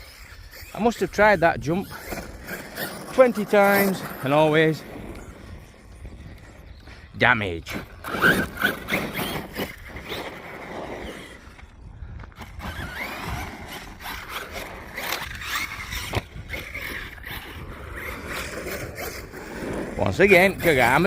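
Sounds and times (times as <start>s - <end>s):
electric motor whining: 0.0s - 21.0s
tyres scrabbling on dirt: 0.0s - 21.0s.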